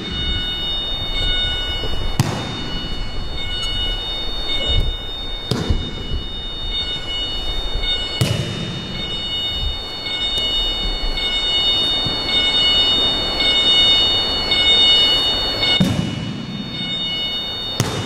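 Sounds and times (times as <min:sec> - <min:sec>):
faint high whine: 0:00.0 - 0:18.0
steady background hum: 0:00.0 - 0:18.0.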